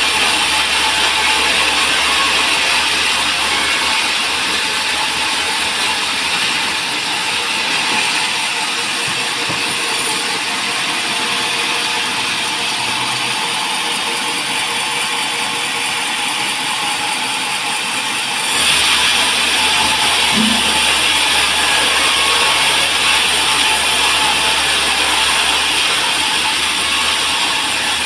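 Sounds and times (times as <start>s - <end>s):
band sawmill running: 0.0s - 28.0s.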